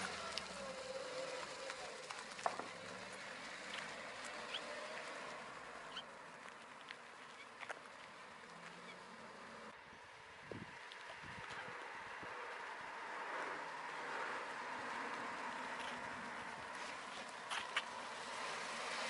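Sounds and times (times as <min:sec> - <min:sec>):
car engine pulling away: 0:00.0 - 0:09.8, 0:11.5 - 0:19.0.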